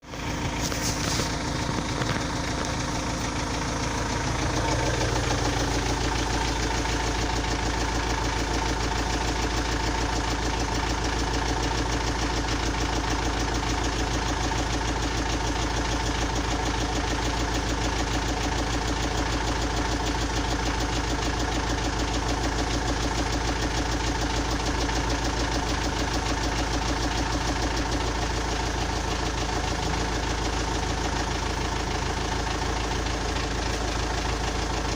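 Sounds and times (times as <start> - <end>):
engine idling with rhythmic knock: 0.0 - 34.9.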